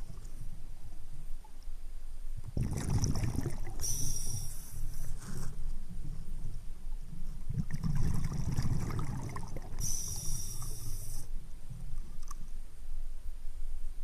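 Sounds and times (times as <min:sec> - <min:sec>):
underwater rumble of moving water: 0:00.0 - 0:14.0.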